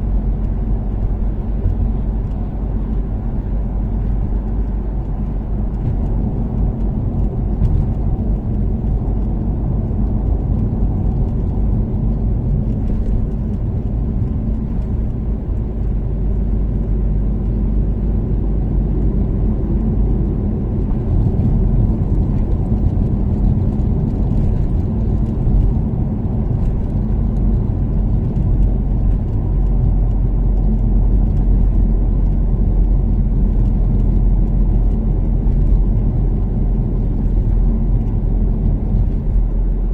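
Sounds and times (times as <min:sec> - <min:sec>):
car engine cruising: 0:00.0 - 0:39.9
tyre and road noise: 0:00.0 - 0:39.9.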